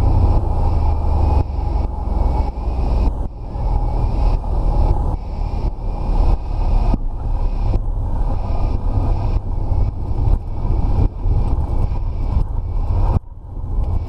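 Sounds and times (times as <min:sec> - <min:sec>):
light aircraft engine rumbling: 0:00.0 - 0:14.0.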